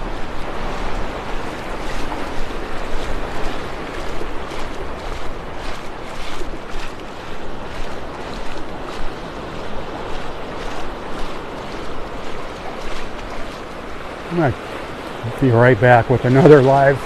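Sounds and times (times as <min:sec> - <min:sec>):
surf washing onto beach: 0:00.0 - 0:17.0.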